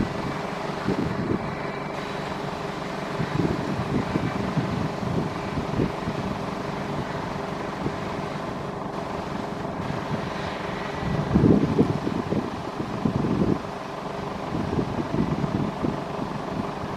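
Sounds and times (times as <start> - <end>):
tractor and baler running: 0.0 - 16.9.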